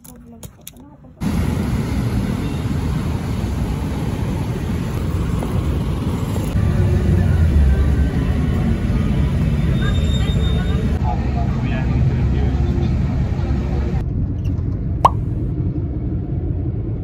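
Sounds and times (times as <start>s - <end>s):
low rumble of vehicle noise: 0.0s - 17.0s.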